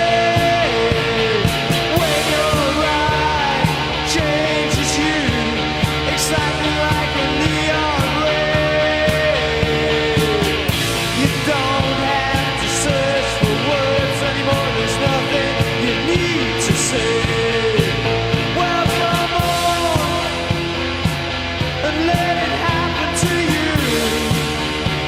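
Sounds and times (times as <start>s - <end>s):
electric guitars droning: 0.0s - 25.0s
steady drums: 0.0s - 25.0s.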